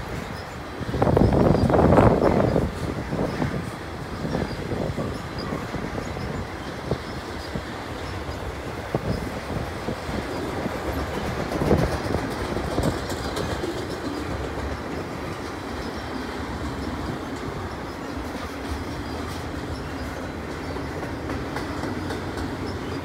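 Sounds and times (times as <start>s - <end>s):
steel wheels rumbling on rail: 0.0s - 23.0s
wheels clicking over rail joints: 0.0s - 23.0s.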